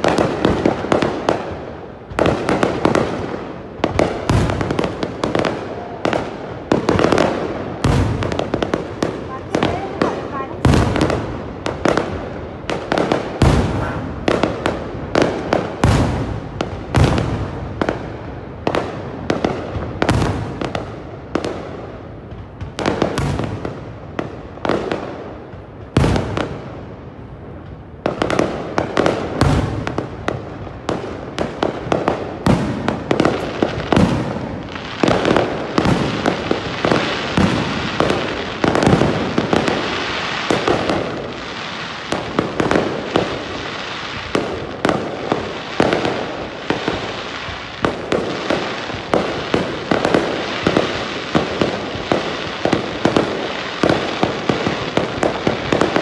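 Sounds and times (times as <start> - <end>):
fireworks crackling: 0.0 - 56.0.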